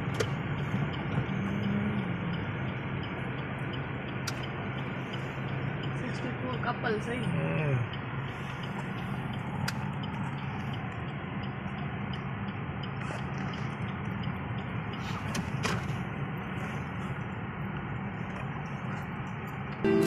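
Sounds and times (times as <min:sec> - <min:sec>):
car engine and tyre hum: 0:00.0 - 0:20.0.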